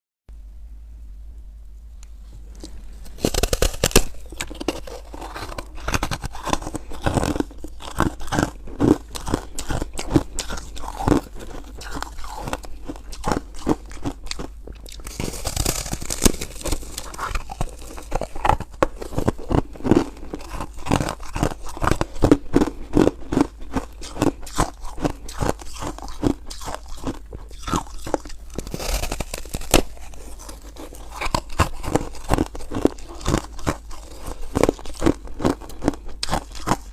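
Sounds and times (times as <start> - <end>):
chewing ice crunches: 2.6 - 36.9.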